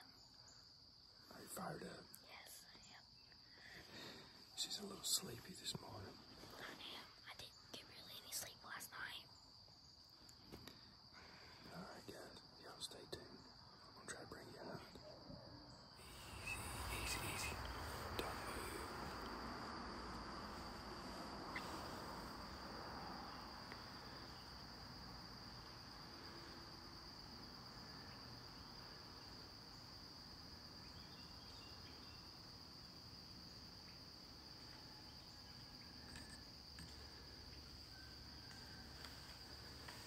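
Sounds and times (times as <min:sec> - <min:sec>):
crickets singing: 0:00.0 - 0:40.0.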